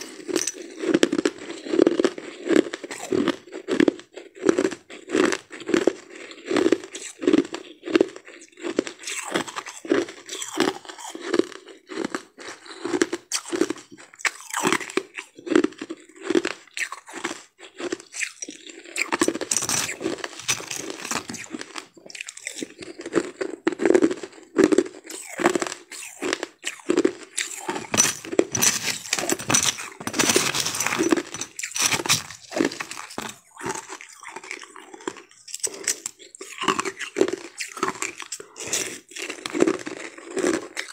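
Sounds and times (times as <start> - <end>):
crunching ice chewing: 0.0 - 40.9.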